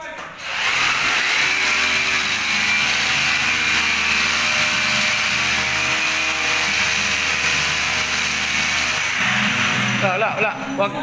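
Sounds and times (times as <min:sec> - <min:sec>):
electric drill boring into concrete: 0:00.4 - 0:10.4.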